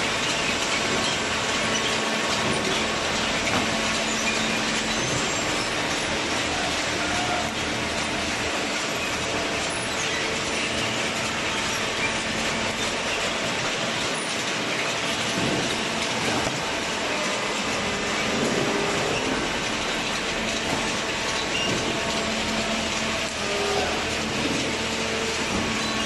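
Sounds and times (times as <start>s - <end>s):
baler machine running: 0.0s - 26.0s.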